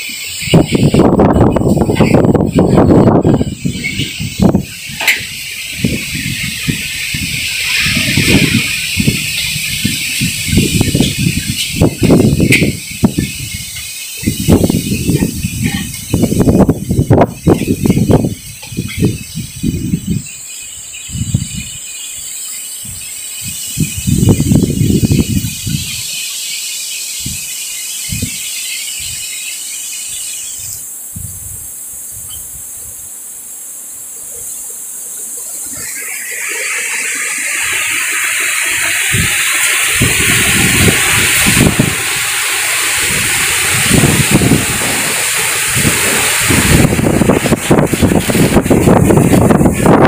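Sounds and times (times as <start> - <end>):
strong wind gusting: 0.0 - 26.2, 27.2 - 29.2, 30.6 - 33.1, 35.4 - 50.0
wind buffeting microphone: 0.0 - 26.2, 27.2 - 29.4, 30.1 - 33.2, 35.4 - 50.0.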